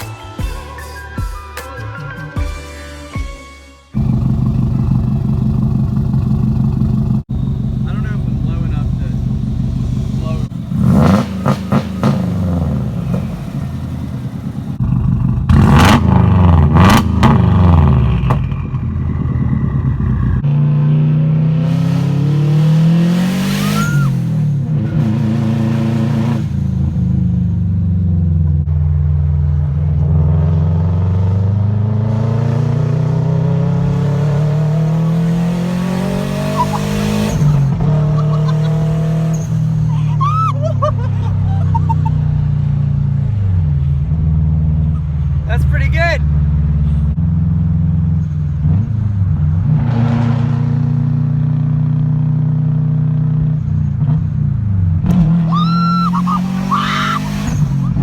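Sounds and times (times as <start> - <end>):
turbocharged engine revving: 4.0 - 58.0.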